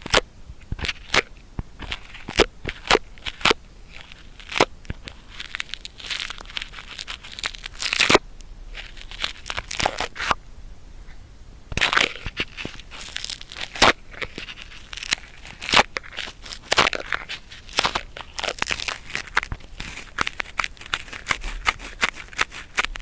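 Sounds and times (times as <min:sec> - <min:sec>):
cotton swab scraping in ear: 0:00.0 - 0:10.4, 0:11.7 - 0:23.0.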